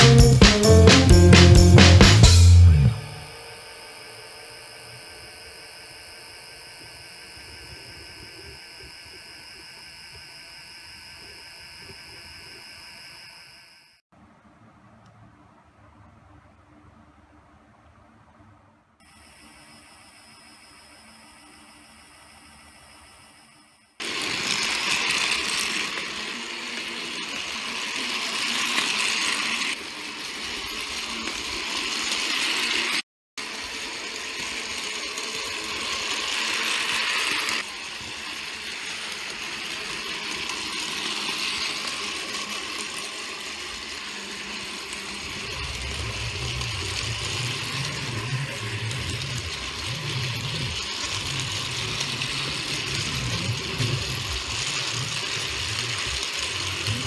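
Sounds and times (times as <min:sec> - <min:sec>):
toy train motor whirring: 0:00.0 - 0:14.0, 0:19.0 - 0:57.0.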